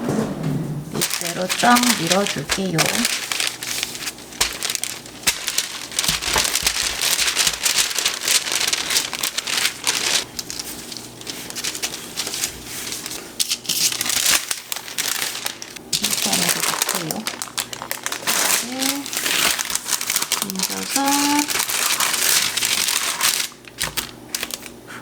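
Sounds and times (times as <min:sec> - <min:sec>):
parchment paper crinkling under rolling pin: 0:01.0 - 0:24.9.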